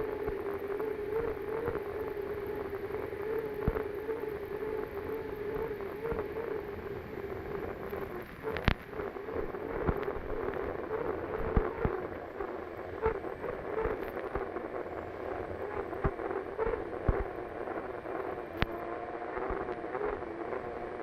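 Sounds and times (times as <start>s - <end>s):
turbine engine drone: 0.0s - 21.0s.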